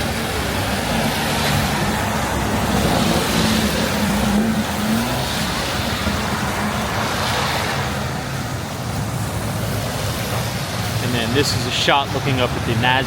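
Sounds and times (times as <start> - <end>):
street noise rushing: 0.0 - 13.0
vehicle engine humming: 0.0 - 13.0.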